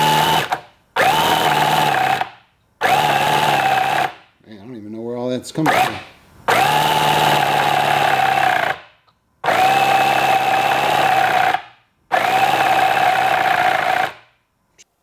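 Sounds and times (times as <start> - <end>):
electric starter whine: 0.0 - 4.2, 5.6 - 14.3.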